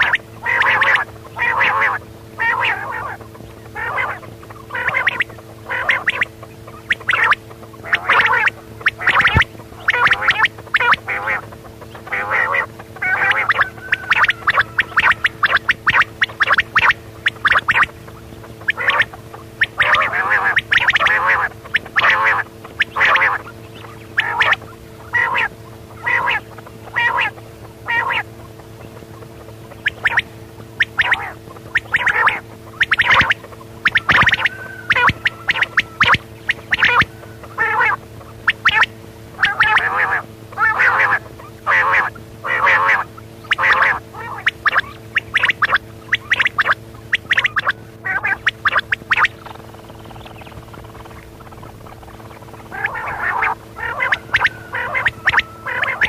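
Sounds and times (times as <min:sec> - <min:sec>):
quail calling: 0:00.0 - 0:56.0
steady low hum: 0:00.0 - 0:56.0.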